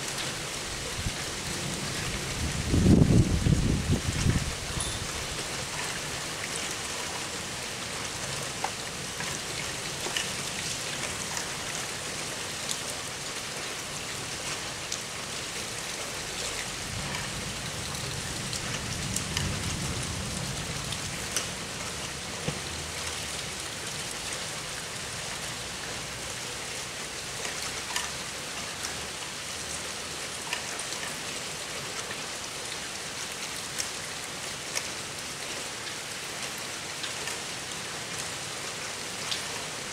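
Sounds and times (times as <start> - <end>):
steady downpour of rain: 0.0 - 39.9
raindrops ticking on surface: 0.1 - 39.9.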